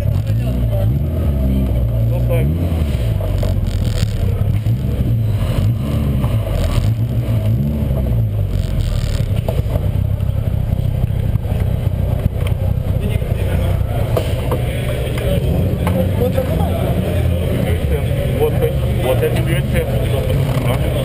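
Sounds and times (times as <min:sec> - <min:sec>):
car engine at low revs: 0:00.0 - 0:21.0.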